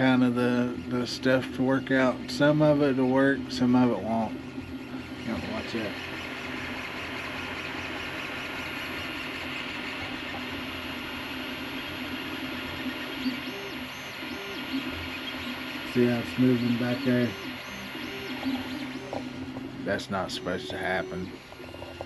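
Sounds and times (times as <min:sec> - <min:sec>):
printer whirring hiss: 0:00.0 - 0:22.0
stepped motor tones: 0:00.7 - 0:22.0.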